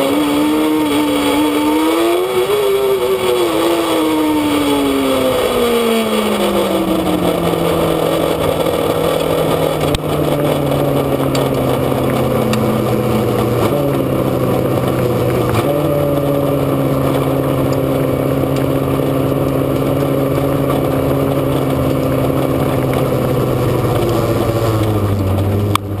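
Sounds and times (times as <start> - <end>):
race car engine running hard: 0.0 - 26.0
wind and road noise: 0.0 - 26.0.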